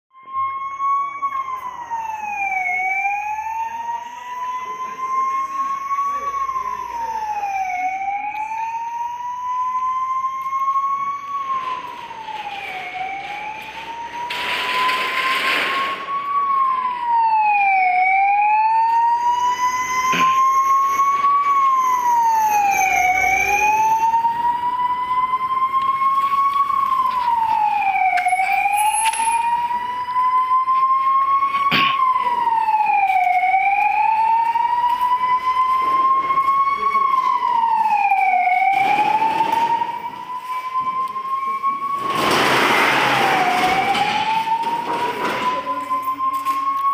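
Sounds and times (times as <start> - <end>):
ambulance siren wailing: 0.1 - 46.9.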